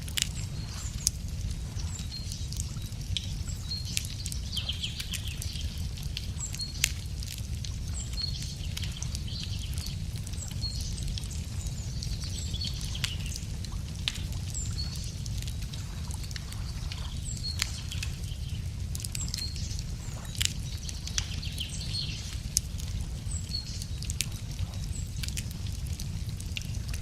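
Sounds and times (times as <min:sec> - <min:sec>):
wood fire crackling and popping: 0:00.0 - 0:27.0
birds chirping: 0:00.3 - 0:25.4.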